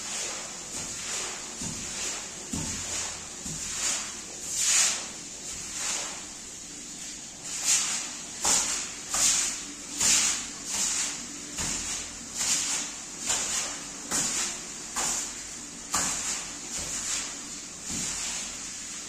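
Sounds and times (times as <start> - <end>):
scrubbing strokes across a rug: 0.0 - 19.0.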